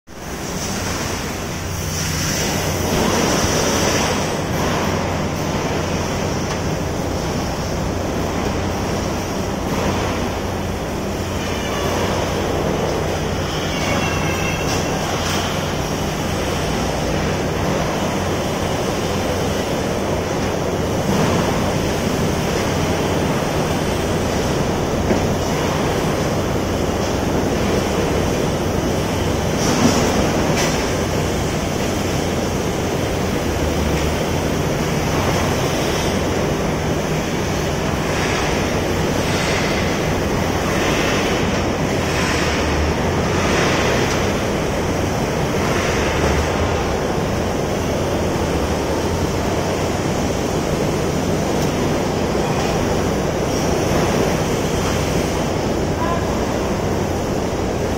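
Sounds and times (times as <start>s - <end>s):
construction equipment roaring: 0.1s - 57.9s.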